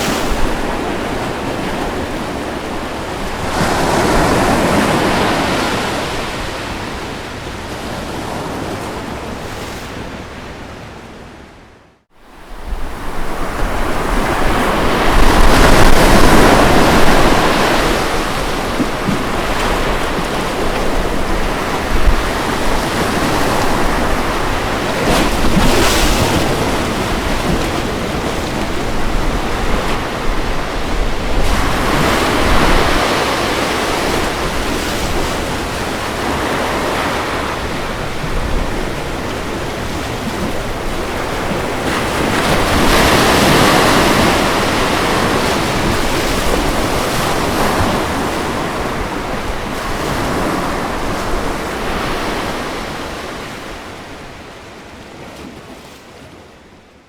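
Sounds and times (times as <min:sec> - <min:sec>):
ocean waves on a beach: 0:00.0 - 0:57.0.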